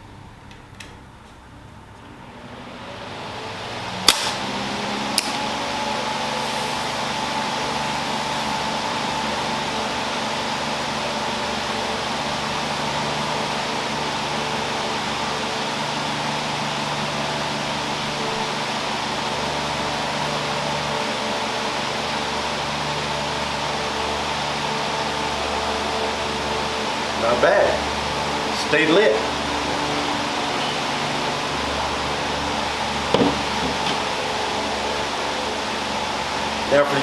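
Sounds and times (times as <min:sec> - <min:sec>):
electric fan whooshing: 0:00.0 - 0:37.0.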